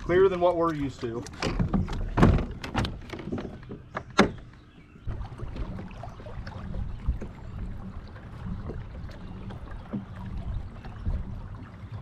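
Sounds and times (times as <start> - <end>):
water splashes and ticks: 0.0 - 12.0.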